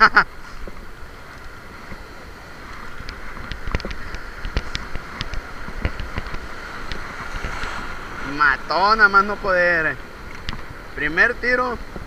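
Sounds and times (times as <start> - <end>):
surf washing over rocks: 0.0 - 12.0
wind on microphone: 0.3 - 11.0.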